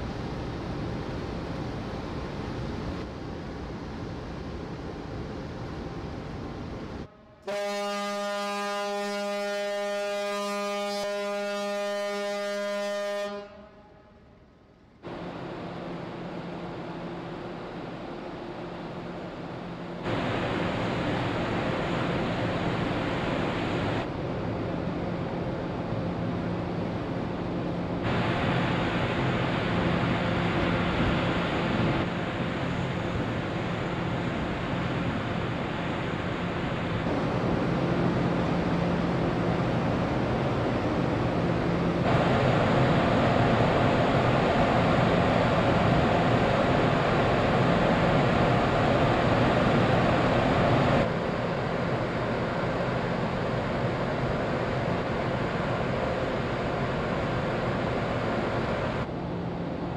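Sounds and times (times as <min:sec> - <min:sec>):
ship engine hum: 0:00.0 - 0:59.9.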